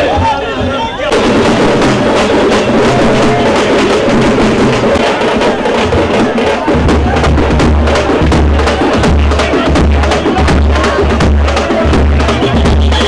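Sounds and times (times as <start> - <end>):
music with fast drumming: 1.1 - 13.0.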